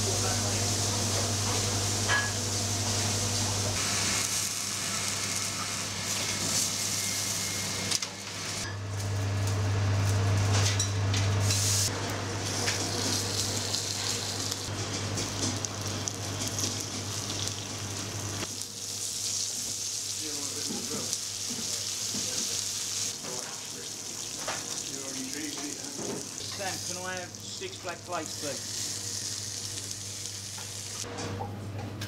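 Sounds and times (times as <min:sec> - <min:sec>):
food sizzling on a griddle: 0:00.0 - 0:08.6, 0:11.4 - 0:31.1.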